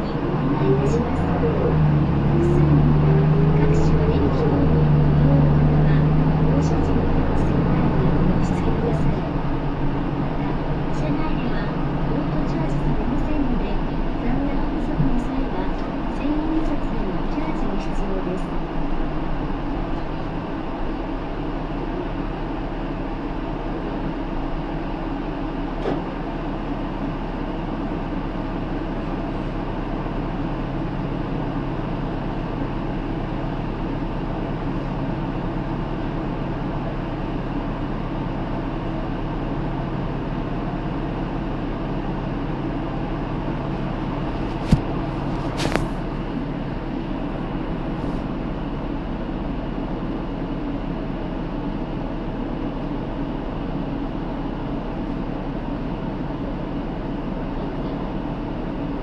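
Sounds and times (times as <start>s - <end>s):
road noise: 0.0s - 51.8s
bus diesel engine drone: 0.0s - 59.0s.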